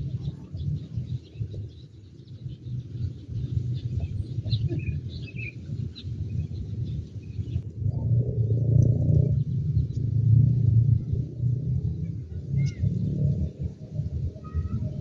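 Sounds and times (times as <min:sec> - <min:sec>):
small birds chirping: 0:00.0 - 0:07.7, 0:08.3 - 0:15.0
steady low rumble: 0:00.0 - 0:15.0.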